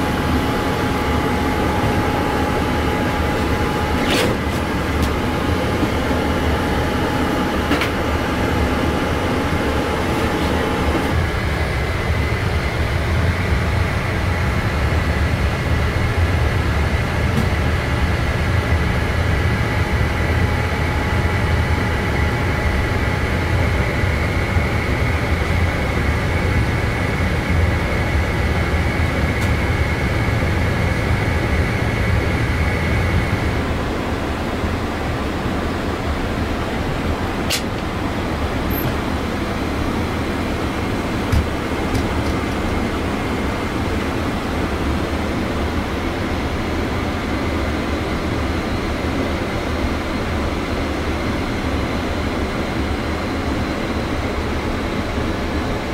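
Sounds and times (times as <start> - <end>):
mid-pitched hum: 0.0 - 50.2
airflow and ventilation rumble: 0.0 - 55.9
faint steady whine: 0.0 - 55.9.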